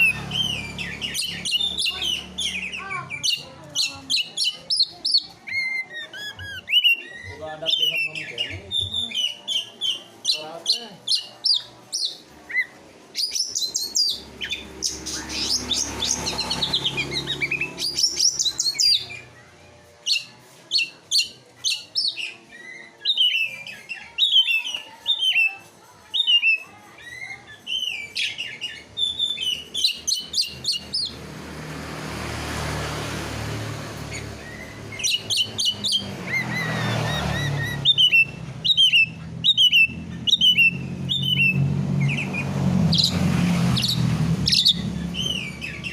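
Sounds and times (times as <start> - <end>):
songbird chirps and whistles: 0.0 - 19.4, 20.0 - 31.2, 34.1 - 45.9.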